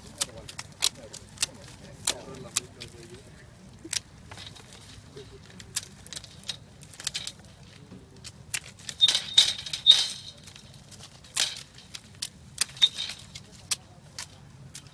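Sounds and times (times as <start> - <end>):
pruning shears snipping: 0.0 - 7.6, 8.2 - 14.9
canes rattling against wire: 0.0 - 14.9.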